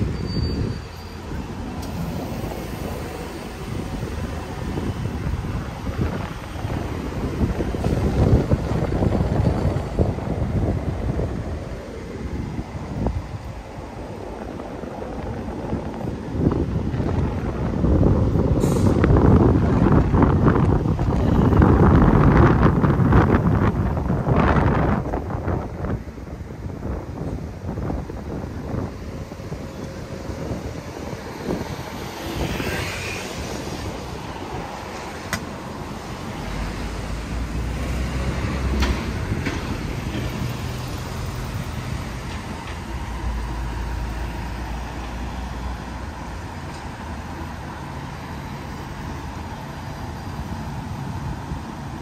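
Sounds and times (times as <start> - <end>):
vehicles passing: 0.0 - 52.0.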